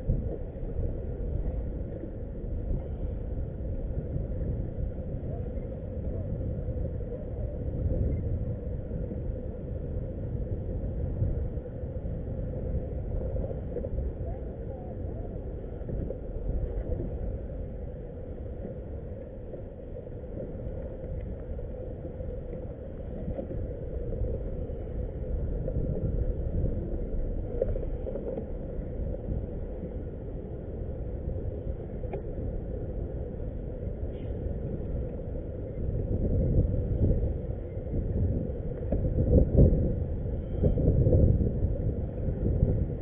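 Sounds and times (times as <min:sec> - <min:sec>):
faint steady hum: 0:00.0 - 0:43.0
water around kayak: 0:00.0 - 0:43.0
wind rumble: 0:00.0 - 0:43.0.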